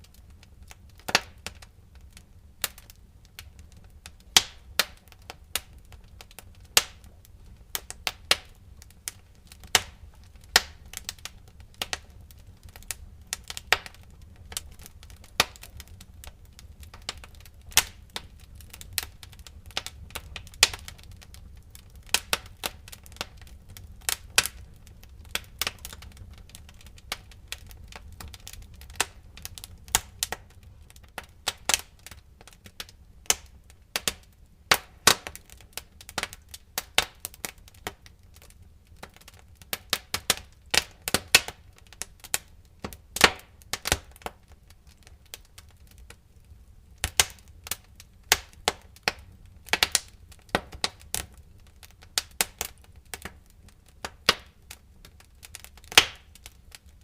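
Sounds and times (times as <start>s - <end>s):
wood fire popping and snapping: 0.0s - 57.0s.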